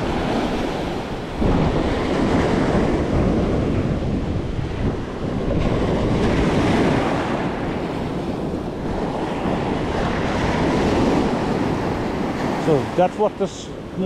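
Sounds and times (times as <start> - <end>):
surf washing on sand: 0.0 - 14.0
wind buffeting microphone: 0.0 - 14.0.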